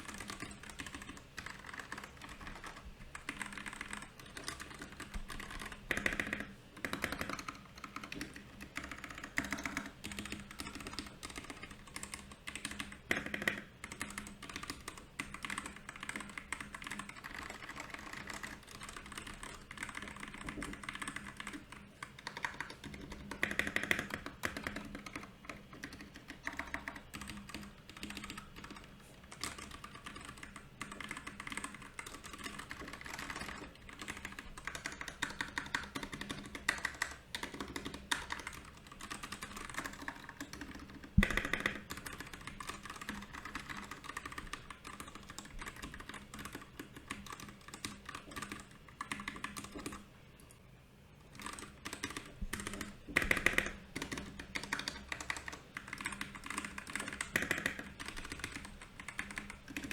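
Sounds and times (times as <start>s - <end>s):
mechanical keyboard typing: 0.0s - 50.5s, 51.3s - 59.9s.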